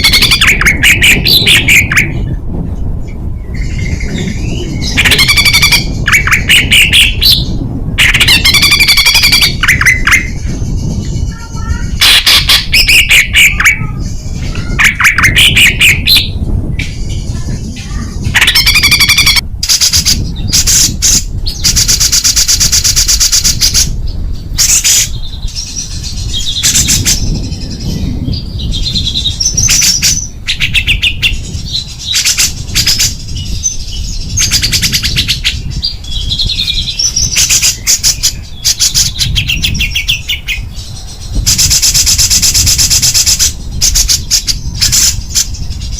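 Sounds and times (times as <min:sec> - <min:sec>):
songbirds singing fast trills: 0:00.0 - 0:45.9.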